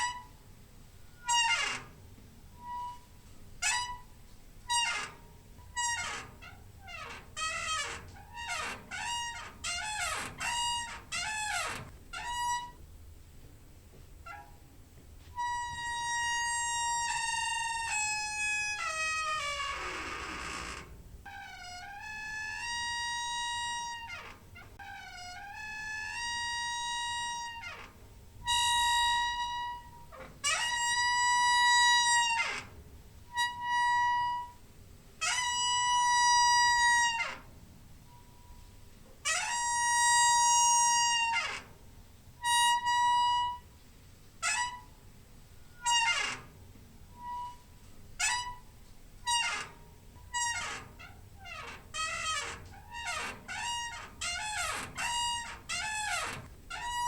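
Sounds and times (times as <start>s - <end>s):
door hinge squeaking: 0.0s - 0.4s, 1.1s - 12.8s, 14.2s - 14.7s, 15.3s - 34.6s, 35.2s - 37.5s, 38.1s - 41.8s, 42.4s - 43.7s, 44.4s - 45.0s, 45.6s - 57.0s.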